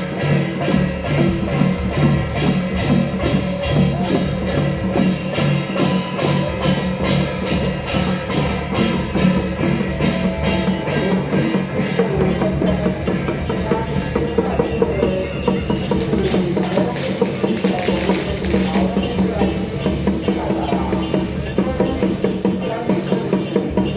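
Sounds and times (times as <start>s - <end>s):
music with fast drum beat: 0.0s - 23.9s.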